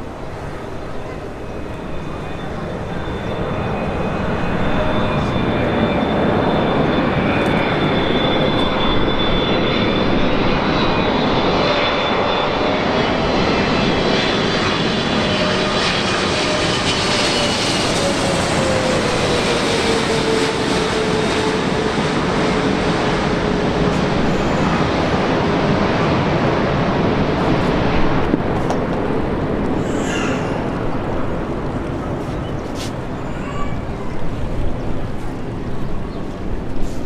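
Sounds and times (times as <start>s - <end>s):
jet engines running: 0.0s - 37.0s.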